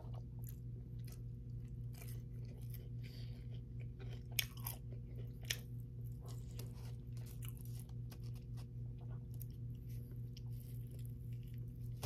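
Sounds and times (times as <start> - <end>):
person chewing food: 0.0 - 12.0
steady low hum: 0.0 - 12.0.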